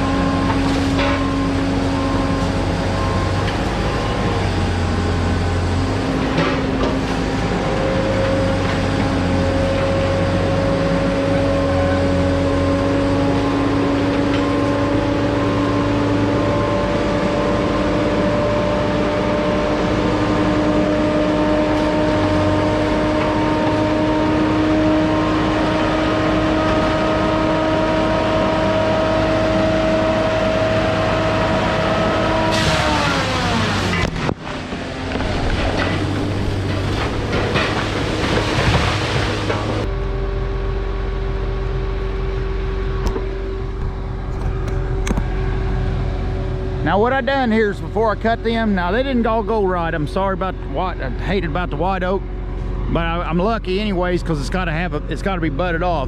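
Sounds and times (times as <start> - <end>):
engine running under load: 0.0 - 56.0.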